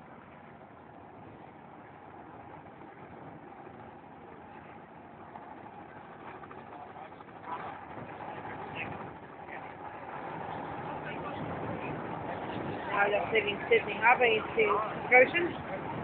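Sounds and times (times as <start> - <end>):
distant motorboat engines droning: 0.0 - 16.0.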